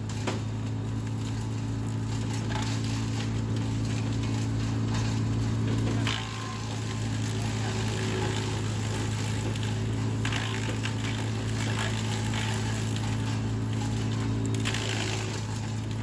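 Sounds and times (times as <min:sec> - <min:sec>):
wood chipper engine running: 0:00.0 - 0:16.0.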